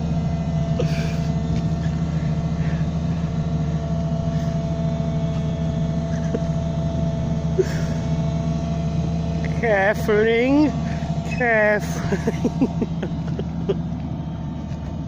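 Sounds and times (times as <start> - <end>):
diesel engine under heavy load: 0.0 - 15.0
engine whine: 0.0 - 15.0.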